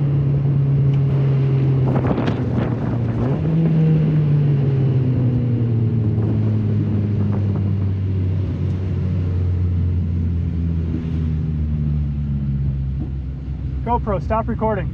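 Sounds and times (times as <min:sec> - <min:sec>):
car engine revving: 0:00.0 - 0:14.9.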